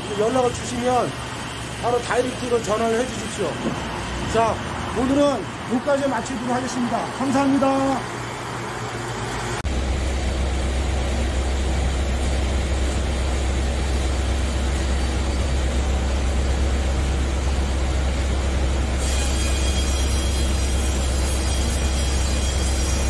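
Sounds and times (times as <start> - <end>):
heater blower humming: 0.0 - 23.0.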